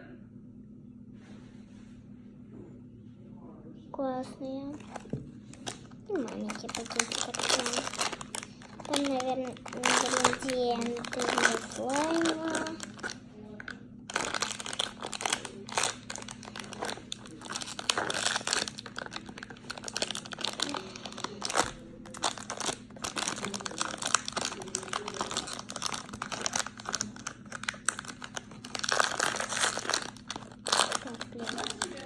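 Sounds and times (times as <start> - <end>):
plastic packet crinkling: 4.7 - 32.0.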